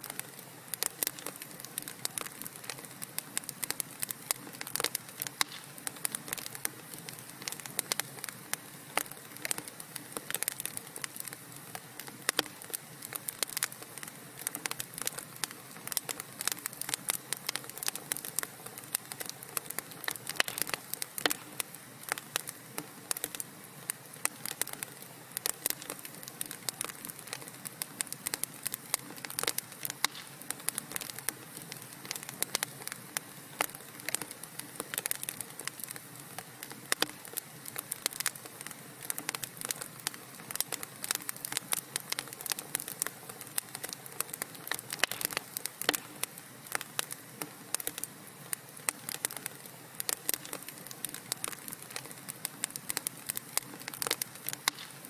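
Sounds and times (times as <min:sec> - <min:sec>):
hiss of burning logs: 0:00.0 - 0:55.0
wood fire crackling: 0:00.0 - 0:55.0.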